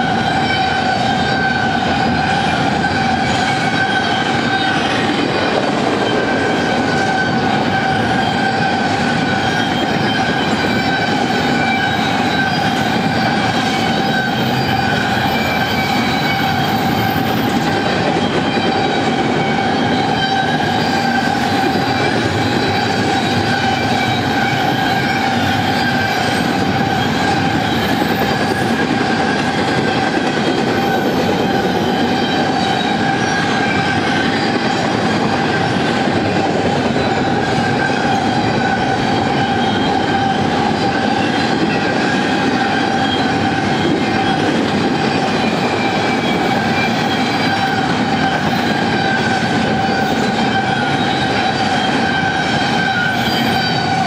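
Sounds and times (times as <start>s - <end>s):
steel wheels rumbling on rail: 0.0s - 54.0s
high ringing tone: 0.1s - 54.0s.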